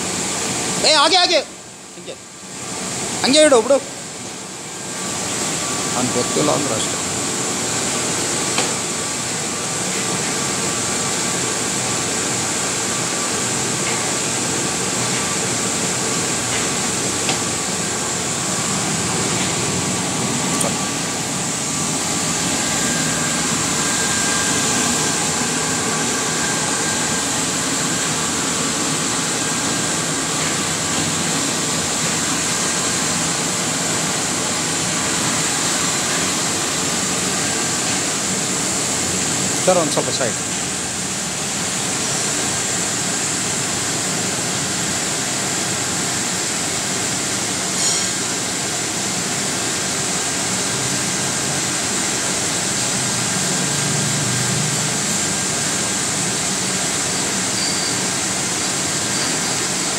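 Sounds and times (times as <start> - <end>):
cooling blower rushing: 0.0 - 59.9.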